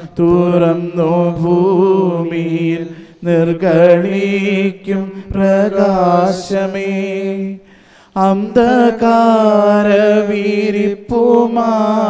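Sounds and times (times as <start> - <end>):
person singing a hymn: 0.0 - 12.0.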